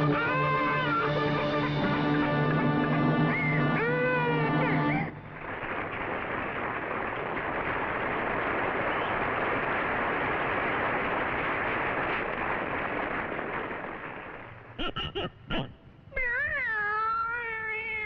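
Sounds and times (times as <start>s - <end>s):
audience applause: 0.0s - 15.7s.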